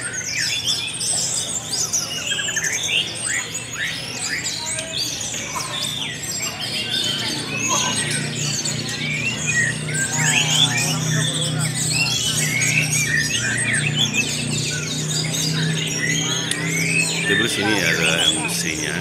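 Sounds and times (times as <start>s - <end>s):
chorus of thrushes singing: 0.0s - 19.0s.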